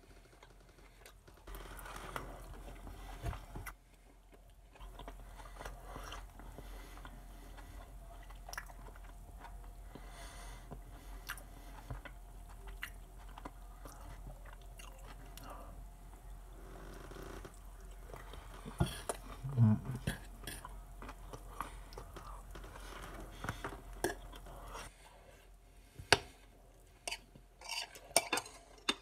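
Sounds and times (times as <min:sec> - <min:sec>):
person chewing food: 0:00.2 - 0:29.0.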